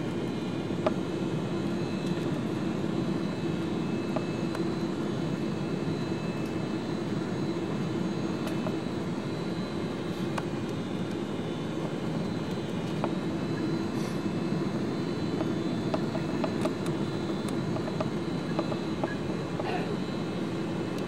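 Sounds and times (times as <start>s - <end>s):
airliner cabin engine rush: 0.0s - 21.0s.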